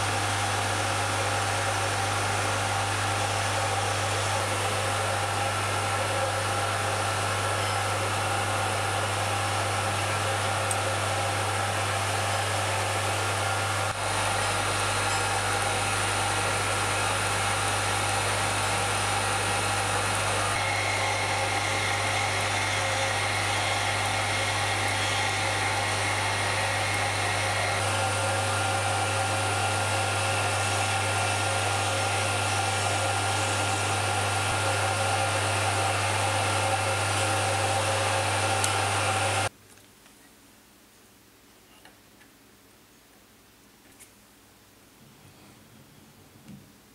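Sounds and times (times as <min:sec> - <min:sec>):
lathe motor humming and whining: 0:00.0 - 0:39.5.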